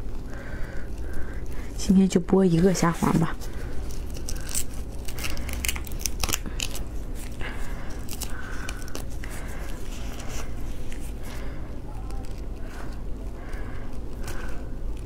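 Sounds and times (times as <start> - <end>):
prawn shell crackling: 0.0 - 15.0.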